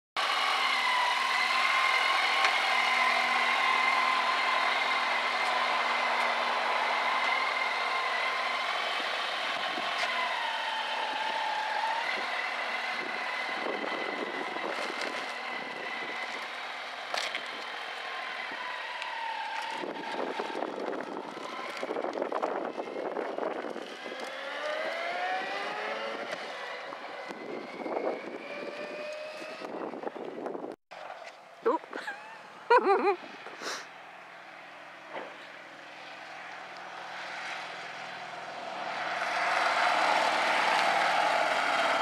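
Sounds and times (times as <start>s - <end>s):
motorcycle engine accelerating: 0.2s - 31.2s, 32.0s - 42.0s.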